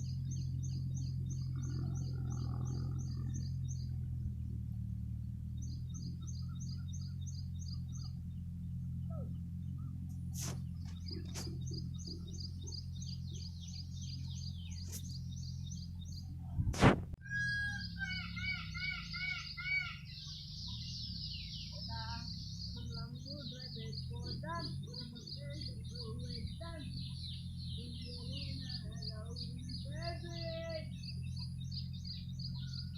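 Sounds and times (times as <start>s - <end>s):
whistled bird chorus: 0.0s - 4.0s, 5.5s - 16.3s, 17.2s - 32.9s
birds chirping: 0.0s - 16.6s, 17.2s - 32.9s
steady low hum: 0.0s - 32.9s.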